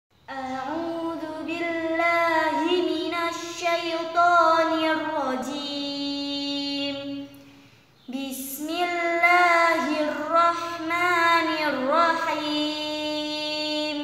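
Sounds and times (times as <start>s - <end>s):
woman chanting melodically: 0.3s - 14.0s.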